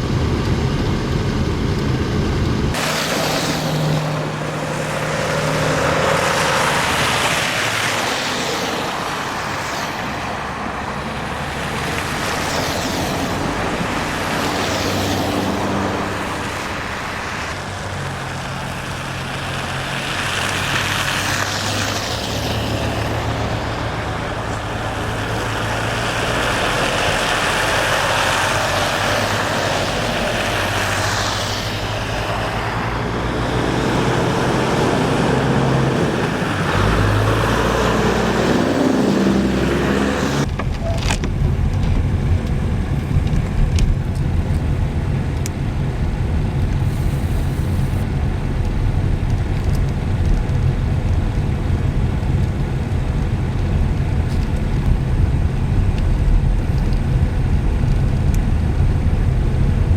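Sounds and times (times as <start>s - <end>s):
low engine hum: 0.0s - 59.9s
vehicles passing: 0.0s - 59.9s.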